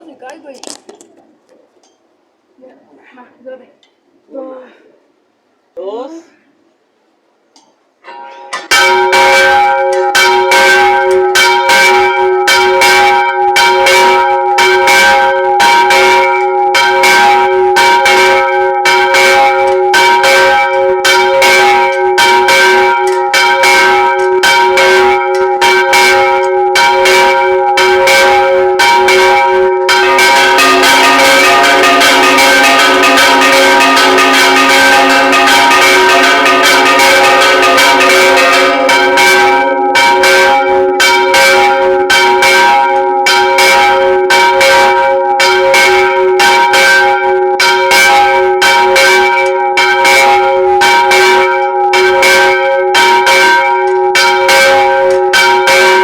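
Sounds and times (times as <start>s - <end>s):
church bells ringing: 8.0s - 56.0s
lower bell: 8.0s - 56.0s.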